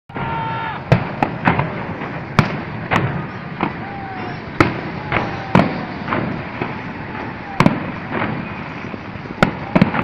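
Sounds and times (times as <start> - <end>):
falling firework whistles: 0.1 - 10.0
fireworks bangs: 0.1 - 10.0.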